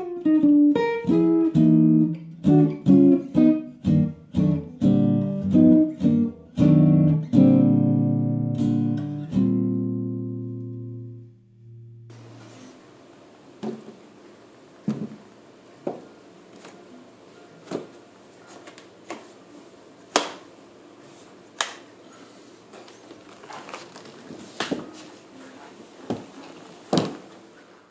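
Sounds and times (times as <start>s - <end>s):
faint room hiss: 0.0s - 27.9s.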